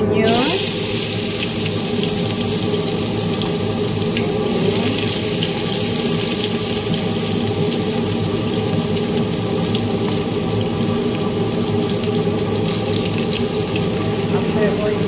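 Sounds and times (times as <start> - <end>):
onion sizzling in hot oil: 0.2 - 15.0.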